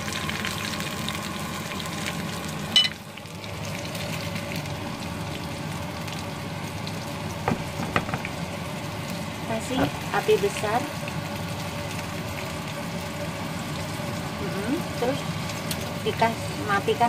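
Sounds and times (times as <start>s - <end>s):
fritters sizzling in hot oil: 0.0s - 17.0s
pot boiling with steady hiss: 0.0s - 17.0s.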